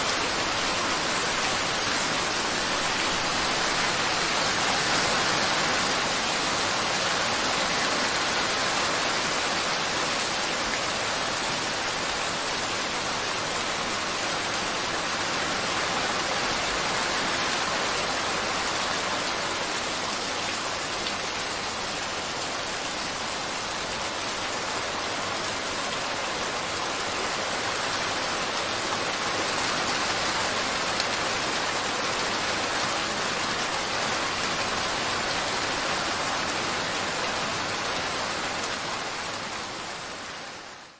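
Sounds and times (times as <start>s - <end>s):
steady rain-like hiss: 0.0s - 40.9s.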